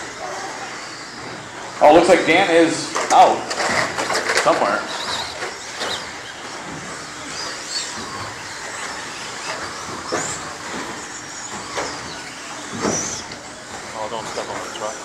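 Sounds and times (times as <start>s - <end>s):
high motor whines: 0.0s - 15.0s.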